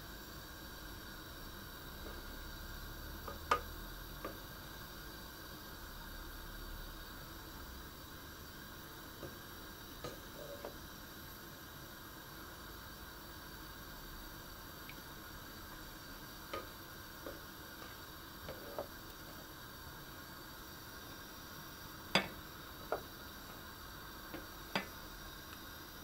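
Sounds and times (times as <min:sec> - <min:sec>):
water boiling hiss: 0:00.0 - 0:26.0.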